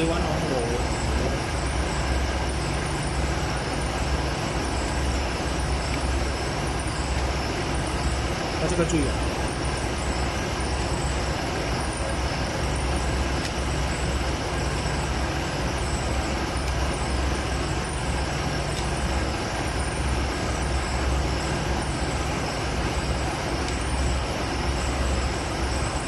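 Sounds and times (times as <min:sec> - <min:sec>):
pumping machinery running: 0:00.0 - 0:26.0.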